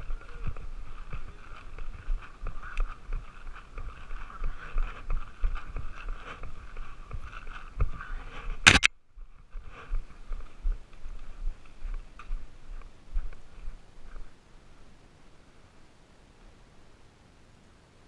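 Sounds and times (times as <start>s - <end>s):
footsteps crunching on dry grass: 0.0s - 14.9s.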